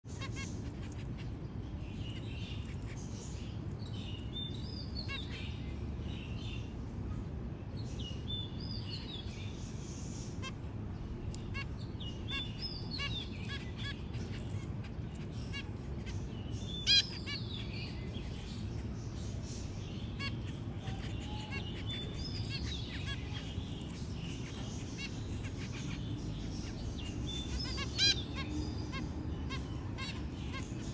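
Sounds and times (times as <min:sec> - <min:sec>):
finches chirping: 0:00.1 - 0:06.8, 0:07.7 - 0:30.9
steady low hum: 0:00.1 - 0:30.9.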